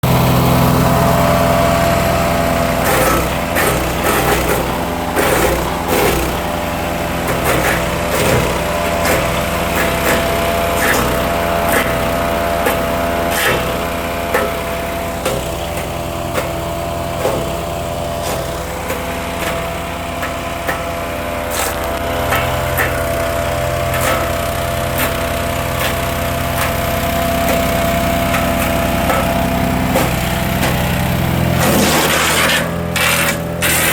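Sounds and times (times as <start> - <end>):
wood chipper engine running: 0.0 - 33.9.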